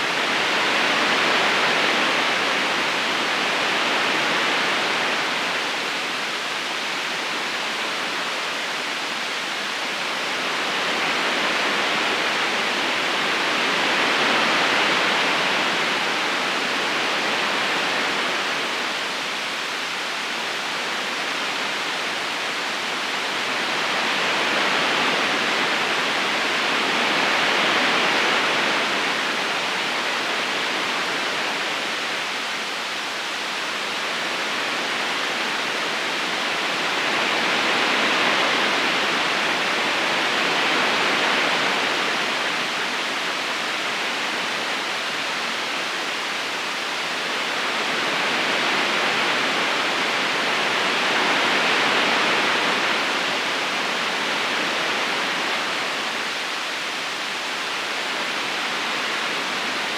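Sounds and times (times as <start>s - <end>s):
river current rushing: 0.0s - 59.9s.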